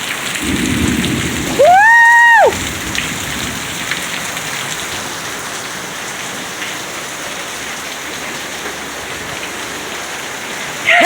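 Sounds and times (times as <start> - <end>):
raindrop ticks: 0.0 - 10.1
heavy rain pouring: 0.0 - 11.0.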